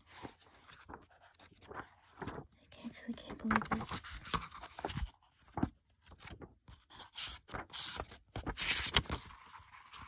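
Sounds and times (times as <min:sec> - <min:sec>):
book pages rustling: 0:00.0 - 0:10.0.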